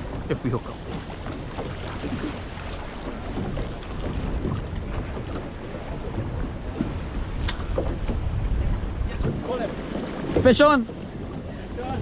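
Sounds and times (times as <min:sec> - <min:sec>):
water lapping around boat: 0:00.0 - 0:12.0
wind buffeting microphone: 0:00.0 - 0:12.0.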